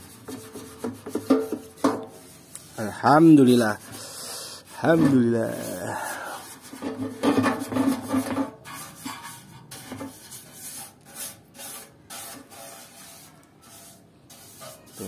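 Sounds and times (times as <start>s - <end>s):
wire brush scrubbing metal: 0.0s - 15.0s.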